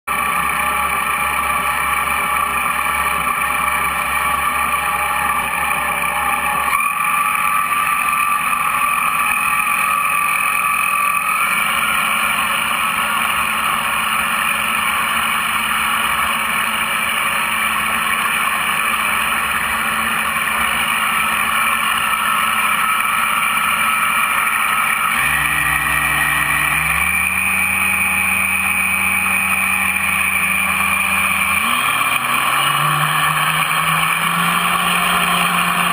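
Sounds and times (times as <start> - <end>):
model boat motor whine: 0.1 - 35.9.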